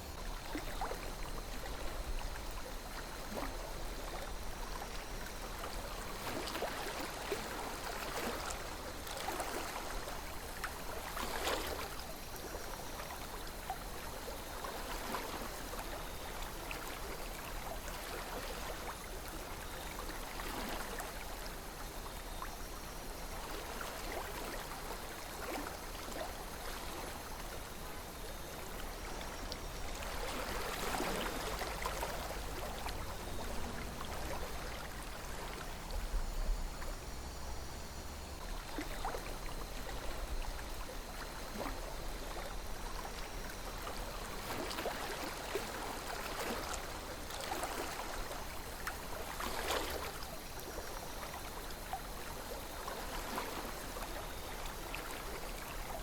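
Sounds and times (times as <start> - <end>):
river water burbling: 0.0 - 56.0.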